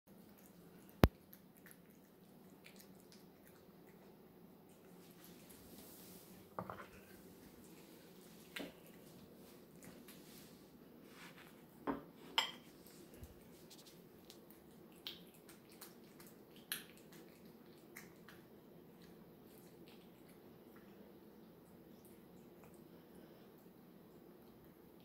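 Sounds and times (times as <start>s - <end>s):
cat licking and eating: 0.1s - 25.0s.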